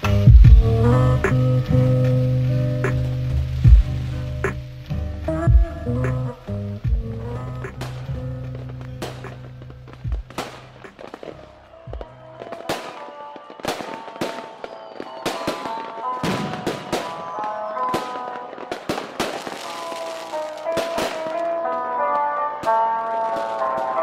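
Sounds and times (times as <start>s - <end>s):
fireworks bangs and crackles: 0.0s - 24.0s
lo-fi music: 0.0s - 24.0s.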